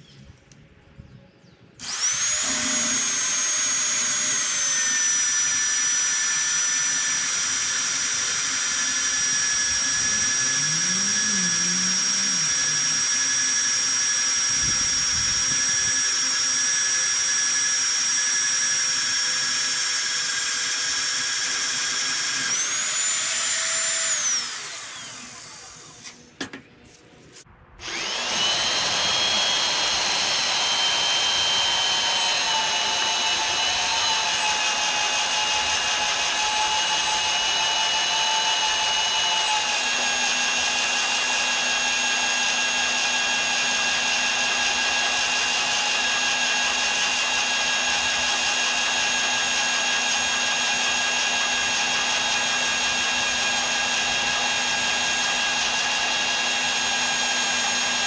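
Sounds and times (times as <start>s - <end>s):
drill press motor whining: 1.8s - 26.2s, 27.8s - 58.0s.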